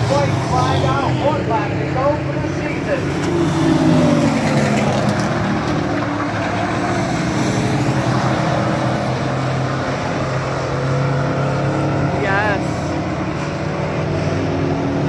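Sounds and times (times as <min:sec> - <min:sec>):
racing truck engines running: 0:00.0 - 0:15.0
truck passing by: 0:00.0 - 0:15.0.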